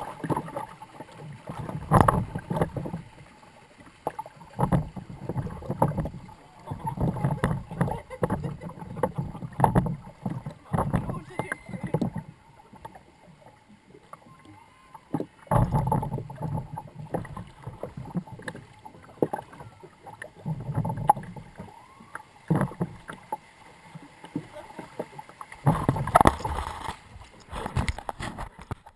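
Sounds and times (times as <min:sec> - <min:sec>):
boat knocking in water channel: 0:00.0 - 0:03.1, 0:04.1 - 0:13.0, 0:15.1 - 0:21.7, 0:22.4 - 0:23.4, 0:24.3 - 0:28.9.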